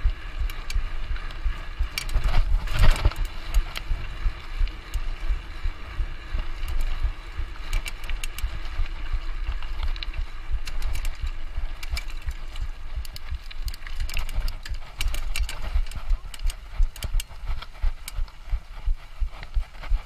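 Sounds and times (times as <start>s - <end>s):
low uneven rumble: 0.0s - 20.0s
mountain bike clattering: 0.0s - 20.0s.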